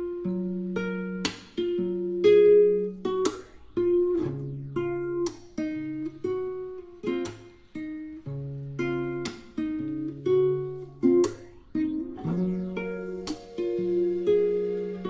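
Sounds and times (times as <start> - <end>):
acoustic guitar chords ringing: 0.0 - 15.0.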